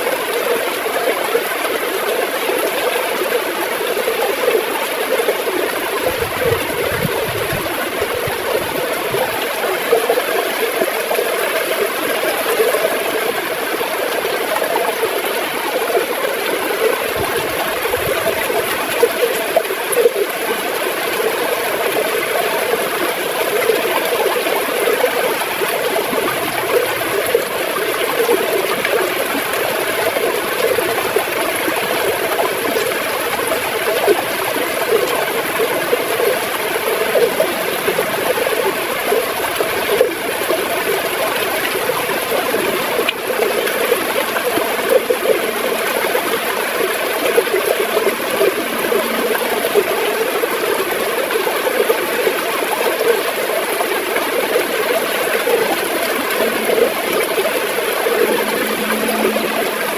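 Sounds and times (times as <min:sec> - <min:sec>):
river water gurgling over rocks: 0:00.0 - 0:59.9.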